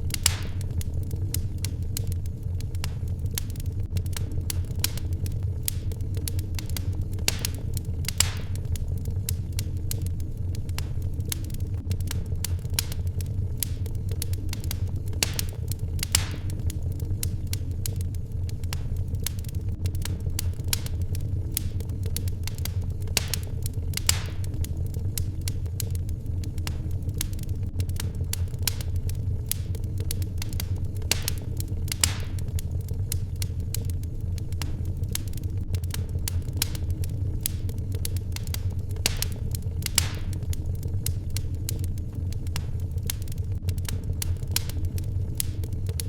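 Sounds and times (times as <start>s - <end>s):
fire hissing: 0.0s - 46.0s
wood fire crackling: 0.0s - 46.0s.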